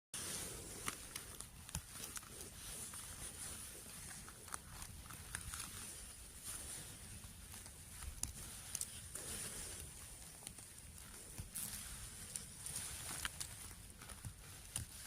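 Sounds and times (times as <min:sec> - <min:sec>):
footsteps in leaf litter: 0:00.2 - 0:15.0.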